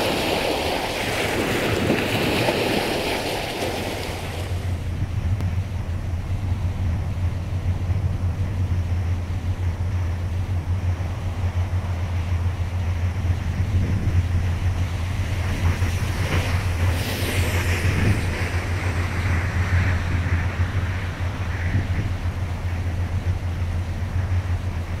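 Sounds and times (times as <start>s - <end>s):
wind: 0.0s - 25.0s
truck engine drone: 3.9s - 25.0s.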